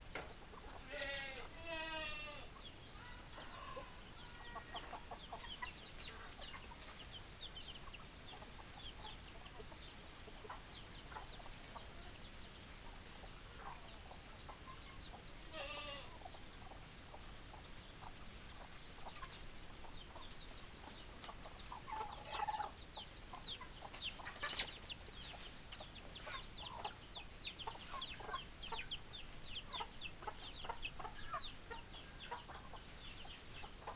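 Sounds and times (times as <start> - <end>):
hens clucking: 0.2 - 33.9.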